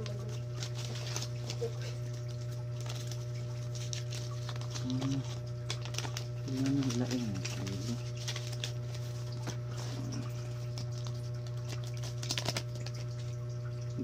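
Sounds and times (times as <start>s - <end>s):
paper banknotes crinkling: 0.0s - 13.5s
steady low hum: 0.0s - 14.0s.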